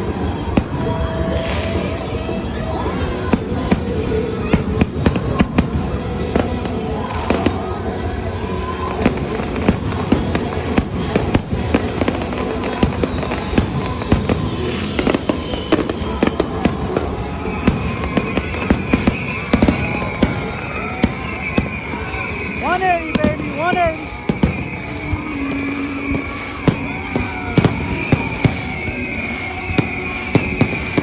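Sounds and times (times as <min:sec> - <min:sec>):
background music: 0:00.0 - 0:31.0
voices: 0:00.0 - 0:31.0.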